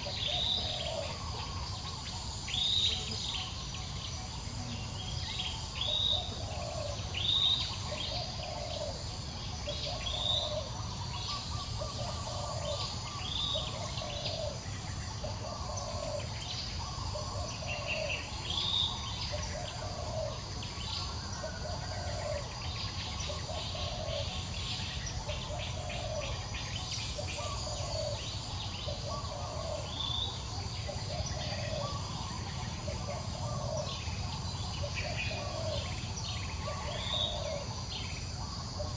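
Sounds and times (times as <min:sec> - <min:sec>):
birds chirping: 0:00.0 - 0:38.9
steady insect hum: 0:00.0 - 0:38.9.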